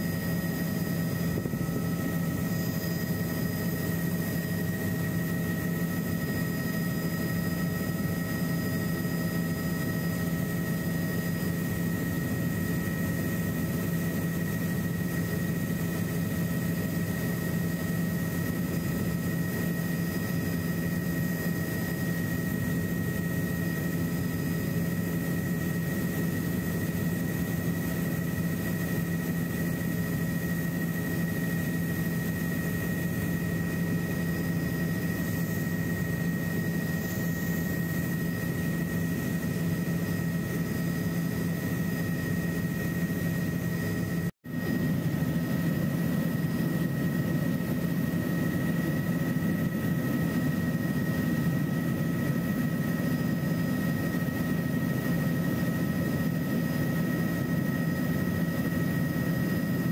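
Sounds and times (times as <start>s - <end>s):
helicopter engine and rotors drone: 0.0s - 59.9s
thin high whine: 0.0s - 59.9s.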